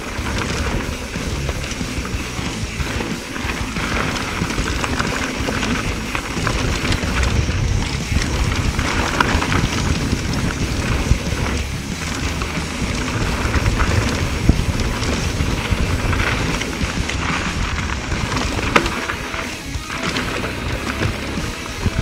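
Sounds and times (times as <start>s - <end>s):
bike rattling knocks: 0.0s - 22.0s
low rumble: 0.0s - 22.0s
wind buffeting microphone: 0.0s - 22.0s.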